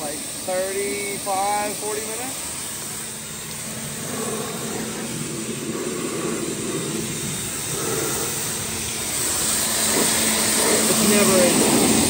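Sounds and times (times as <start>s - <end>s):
pressure washer motor hum: 0.0s - 12.0s
water jet hissing: 0.0s - 12.0s.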